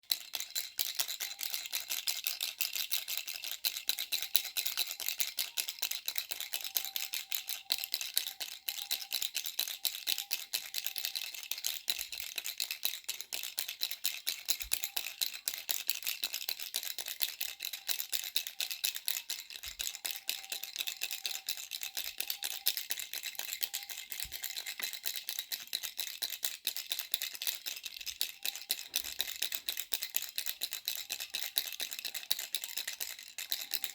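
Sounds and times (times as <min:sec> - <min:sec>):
baby rattle shaken: 0:00.0 - 0:33.9.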